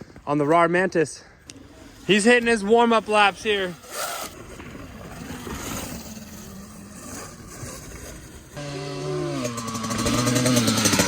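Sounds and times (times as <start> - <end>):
dirt bike engine: 0.0 - 11.0.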